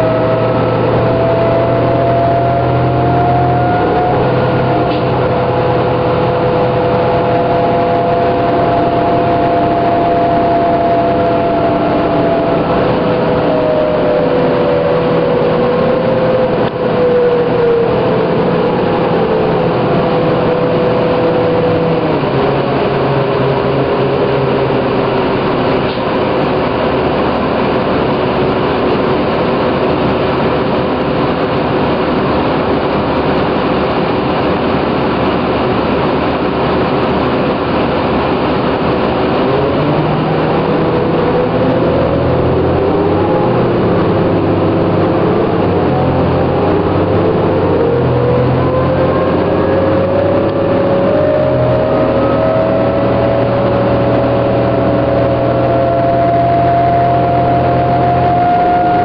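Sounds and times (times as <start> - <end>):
bus engine and road noise: 0.0 - 59.0
whining tones gliding down: 0.0 - 59.0.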